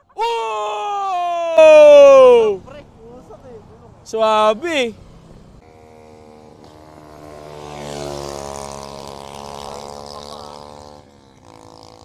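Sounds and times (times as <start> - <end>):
motorcycles passing at speed: 1.4 - 12.0.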